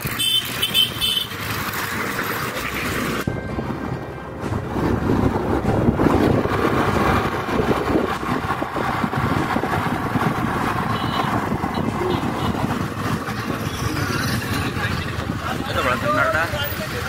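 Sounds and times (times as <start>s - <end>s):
scooter engine: 0.0s - 17.0s
tyres on road: 0.0s - 17.0s
wind noise on microphone: 2.8s - 17.0s.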